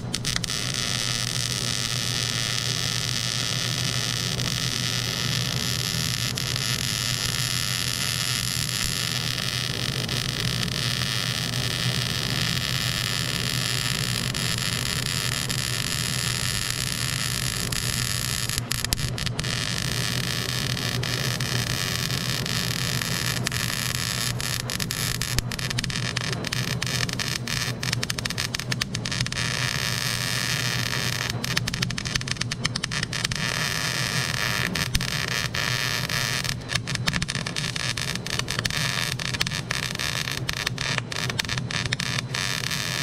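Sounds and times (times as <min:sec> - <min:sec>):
welding arc hissing: 0:00.0 - 0:43.0.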